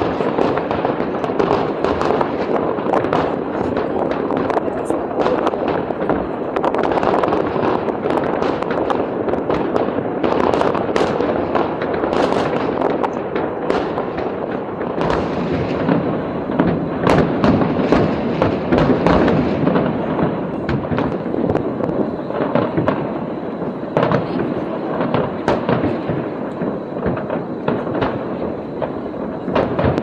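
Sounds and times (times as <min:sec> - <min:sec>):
fireworks bangs: 0:00.0 - 0:30.0
fireworks crackle: 0:00.0 - 0:30.0.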